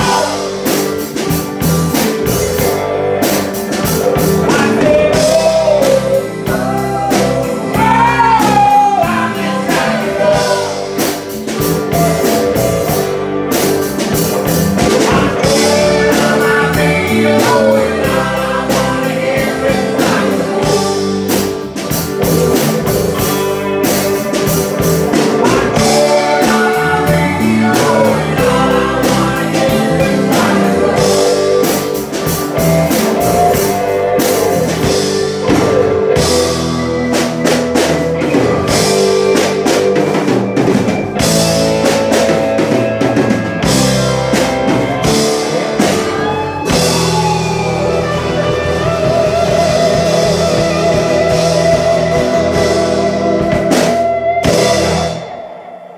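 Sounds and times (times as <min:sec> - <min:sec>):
rock music with guitar and drums: 0:00.0 - 0:55.9.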